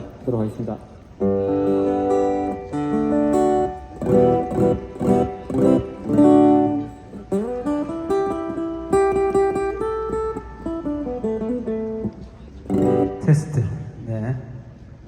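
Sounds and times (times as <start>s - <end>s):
acoustic guitar strumming and plucking: 1.2s - 14.0s.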